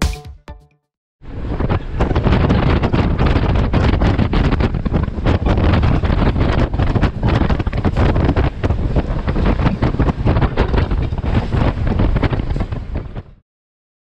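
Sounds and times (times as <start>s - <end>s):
wind buffeting microphone: 1.2s - 13.4s
train running rumble: 1.3s - 13.2s.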